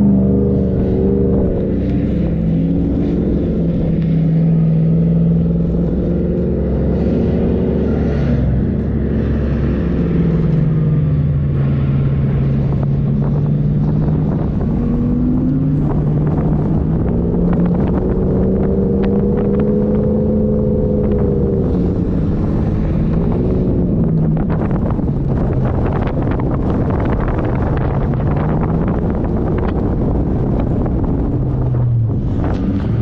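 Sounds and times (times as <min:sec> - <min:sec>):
off-road vehicle engine driving: 0:00.0 - 0:33.0
wind on microphone: 0:00.0 - 0:33.0.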